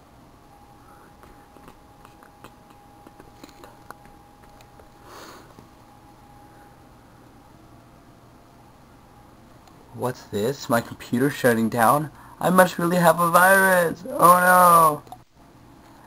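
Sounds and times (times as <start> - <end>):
thin steady tone: 0.0 - 14.9.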